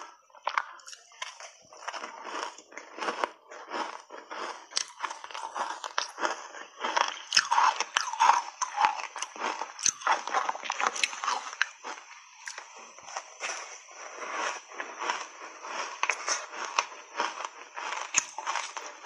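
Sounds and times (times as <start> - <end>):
ice chunks crunching in mouth: 0.0 - 19.0.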